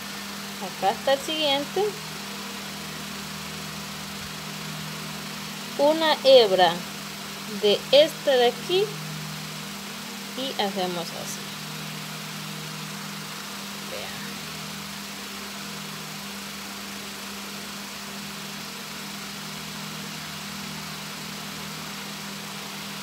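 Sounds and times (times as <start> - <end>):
faint hiss: 0.0 - 23.0
low machine hum: 0.0 - 23.0.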